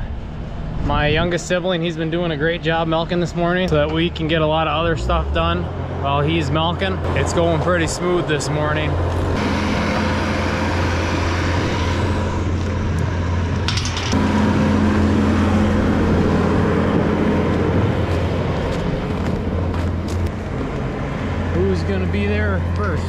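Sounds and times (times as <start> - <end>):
farm machinery humming: 0.0 - 23.0.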